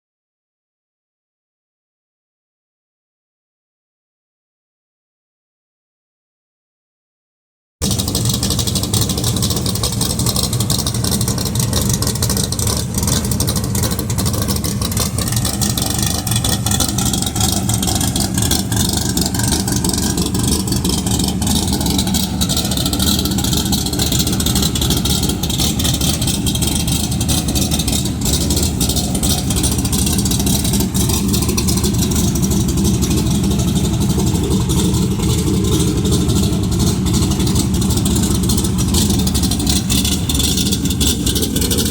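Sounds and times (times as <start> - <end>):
car engine idling: 7.8 - 41.9.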